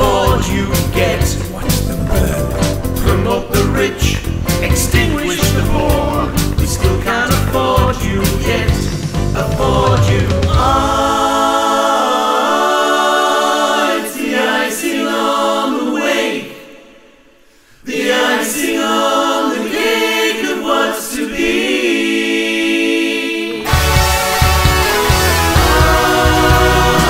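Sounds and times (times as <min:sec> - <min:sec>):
choir singing a cappella: 0:00.0 - 0:27.0.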